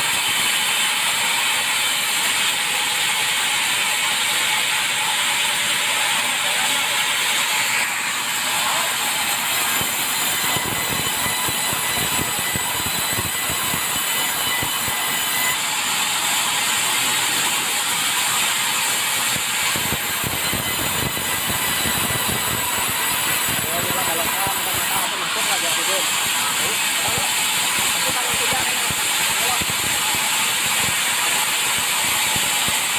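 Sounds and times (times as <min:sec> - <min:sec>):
saw blade cutting log: 0:00.0 - 0:32.9.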